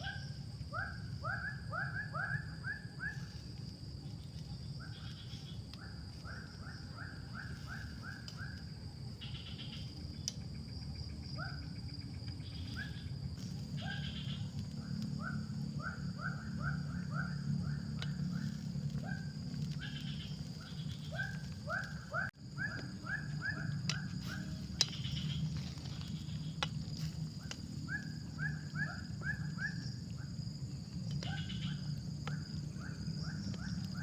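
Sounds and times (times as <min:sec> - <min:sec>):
high insect drone: 0:00.0 - 0:34.0
low steady rumble: 0:00.0 - 0:34.0.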